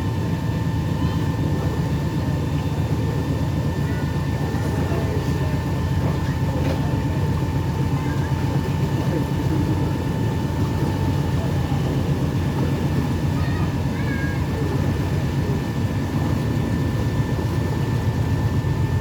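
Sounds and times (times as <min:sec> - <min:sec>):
boat motor rumbling with high whine: 0:00.0 - 0:19.0.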